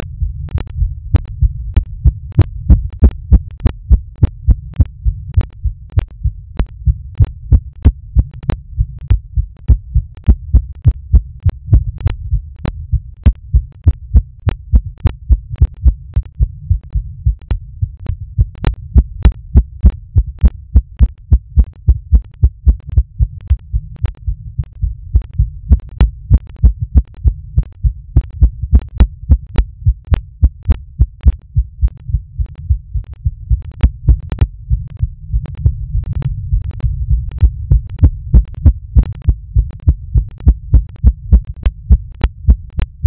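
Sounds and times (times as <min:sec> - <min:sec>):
amplified human heartbeat: 0:00.0 - 0:43.0.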